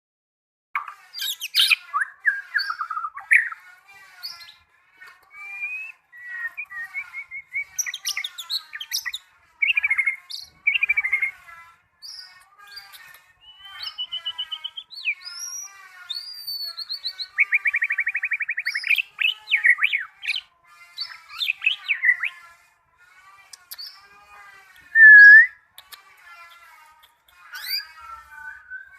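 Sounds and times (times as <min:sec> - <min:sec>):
songbird singing: 0:00.8 - 0:22.4, 0:23.5 - 0:28.9.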